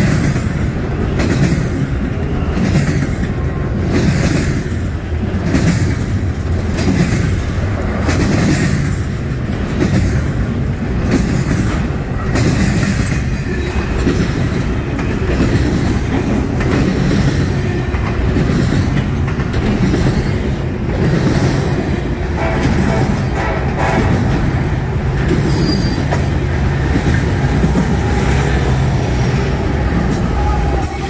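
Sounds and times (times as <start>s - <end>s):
train wheels rumbling on rail: 0.0s - 31.0s
wheels clickety-clack on rail joints: 0.0s - 31.0s.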